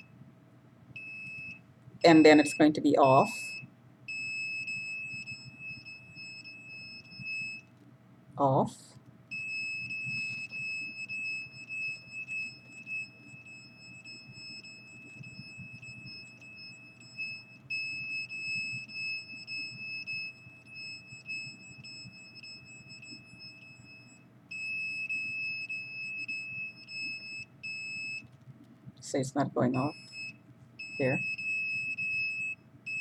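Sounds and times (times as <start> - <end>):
detector alarm tone: 0.0 - 0.2, 1.0 - 7.7, 9.3 - 28.4, 29.2 - 33.0.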